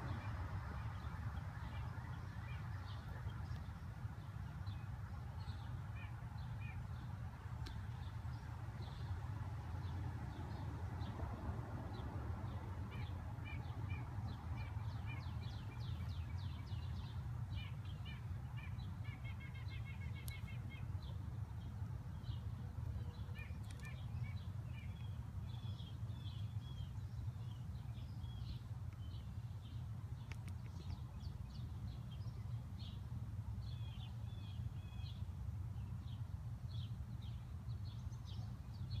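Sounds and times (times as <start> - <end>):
small birds chirping: 0.0 - 11.1, 11.9 - 39.0.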